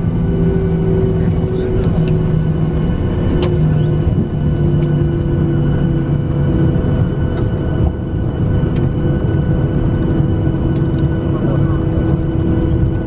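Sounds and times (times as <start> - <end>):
airliner cabin engine roar: 0.0 - 13.0
droning hum tones: 0.0 - 13.0.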